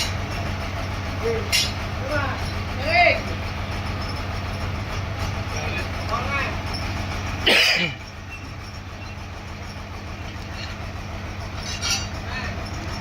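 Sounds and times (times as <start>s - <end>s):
sawmill machinery humming: 0.0s - 13.0s.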